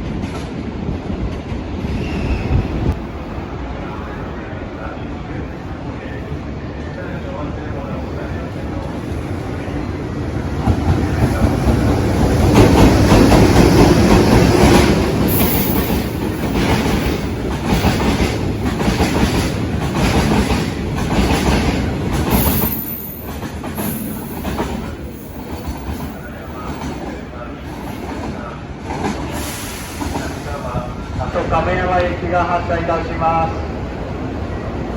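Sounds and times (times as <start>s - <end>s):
freight train rumbling: 0.0s - 34.9s.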